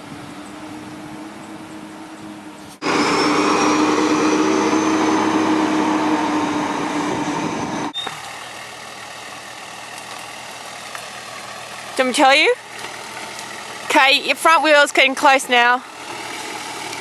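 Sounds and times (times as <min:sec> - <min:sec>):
high turbo whine: 0:00.0 - 0:14.1
diesel engine running: 0:00.0 - 0:17.0.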